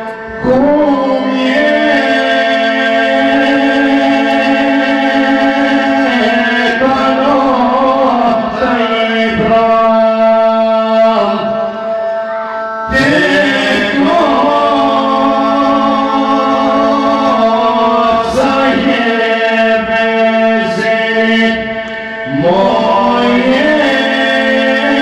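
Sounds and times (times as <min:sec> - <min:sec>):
keyboard drone: 0:00.0 - 0:25.0
man singing folk song: 0:00.4 - 0:11.6, 0:12.9 - 0:25.0.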